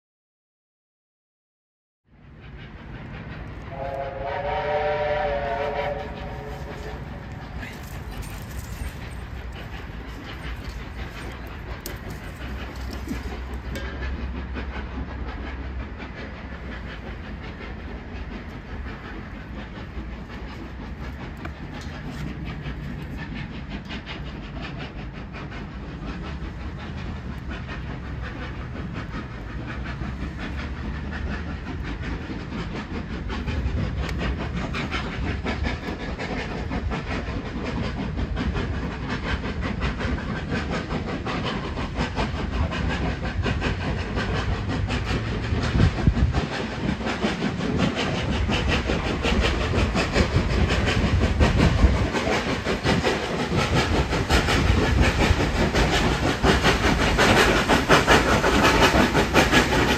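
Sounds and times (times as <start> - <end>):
train rumbling on track: 2.1 - 59.9
fast dense clicking of wheels: 6.7 - 59.9.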